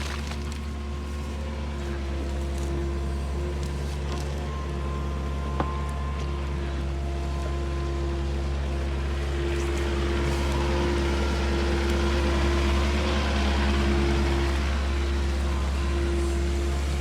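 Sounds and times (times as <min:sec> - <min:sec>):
excavator diesel engine with whine: 0:00.0 - 0:17.0.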